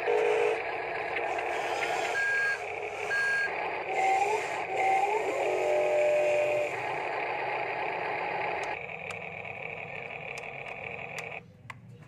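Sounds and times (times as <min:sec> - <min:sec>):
toy motors whirring: 0:00.0 - 0:11.4.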